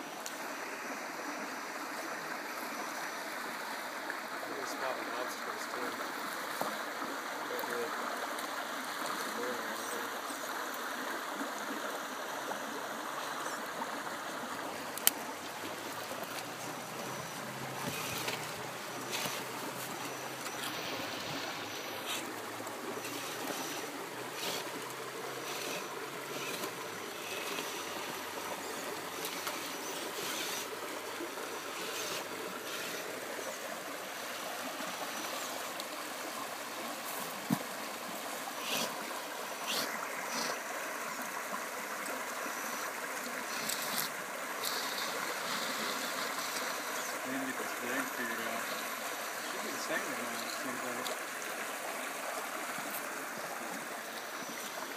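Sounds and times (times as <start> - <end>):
river water flowing over rocks: 0.0 - 54.9.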